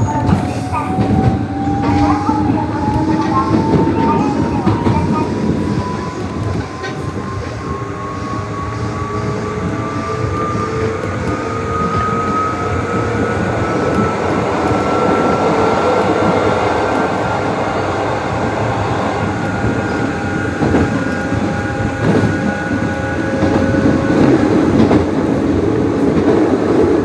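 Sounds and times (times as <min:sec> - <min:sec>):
train running and rail noise: 0:00.0 - 0:27.0.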